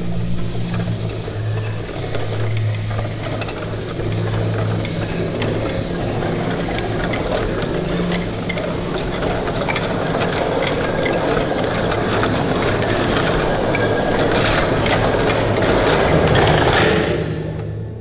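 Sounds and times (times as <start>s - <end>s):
piano keys and hammers clattering: 0.0s - 18.0s
steady low hum: 0.0s - 18.0s.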